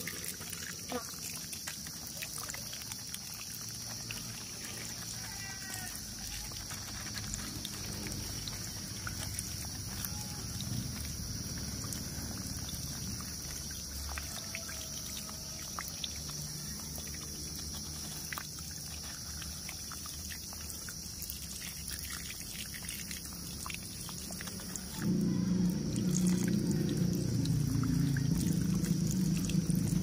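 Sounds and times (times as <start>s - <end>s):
water splashing on plastic toy: 0.0s - 30.0s.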